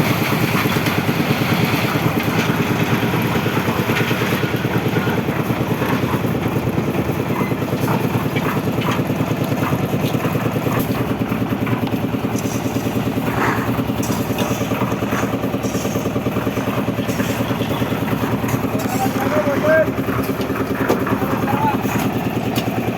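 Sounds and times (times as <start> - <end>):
concrete mixer engine running: 0.0 - 22.9.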